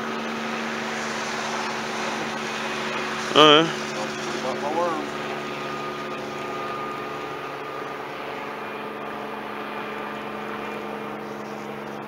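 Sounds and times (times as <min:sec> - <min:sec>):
steady mechanical drone: 0:00.0 - 0:12.0.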